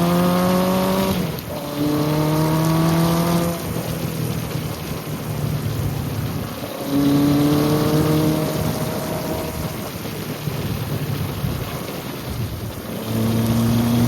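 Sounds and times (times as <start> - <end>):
motorcycle engine revving: 0.0 - 12.0, 12.8 - 14.0
wind rush on microphone: 0.0 - 14.0.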